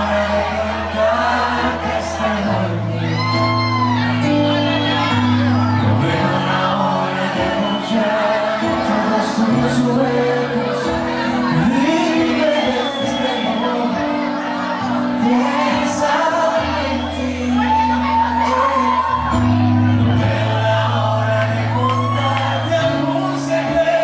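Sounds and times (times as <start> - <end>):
man singing a slow ballad: 0.0 - 3.8, 5.0 - 24.0
crowd shouting and whooping: 0.0 - 24.0
keyboard chords: 0.0 - 24.0.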